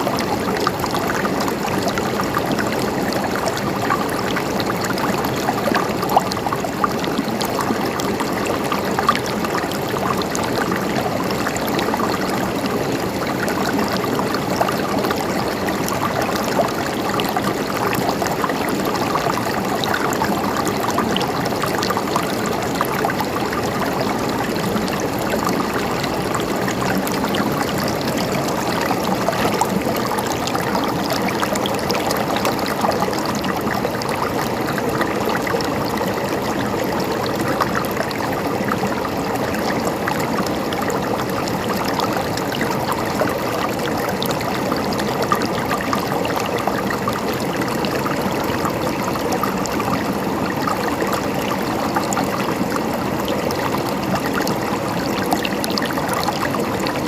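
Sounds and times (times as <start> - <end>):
water gurgling and trickling: 0.0 - 57.0.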